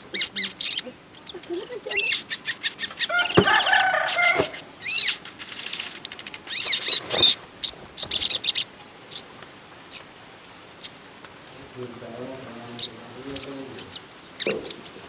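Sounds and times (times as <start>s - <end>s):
songbird chirping and trilling: 0.0s - 10.2s, 10.8s - 15.0s.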